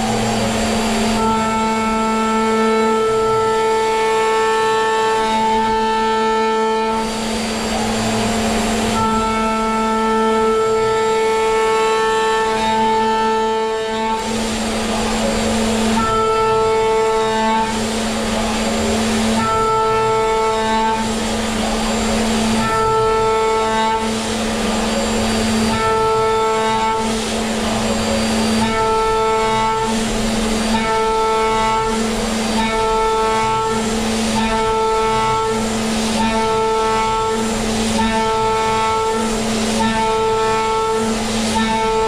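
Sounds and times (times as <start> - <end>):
end mill cutting metal: 0.0 - 42.0
milling spindle whine: 0.0 - 42.0.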